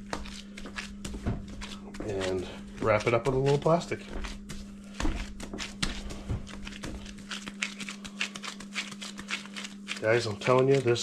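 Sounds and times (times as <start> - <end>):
glove rustling: 0.0 - 11.0
hands patting dough: 0.0 - 11.0.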